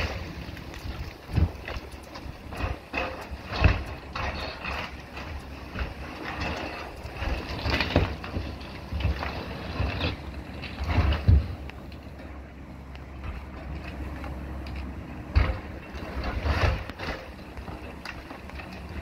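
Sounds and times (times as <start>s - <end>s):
boat hull cracking and crunching: 0.0s - 12.3s, 13.0s - 19.0s
diesel engine running: 0.0s - 19.0s.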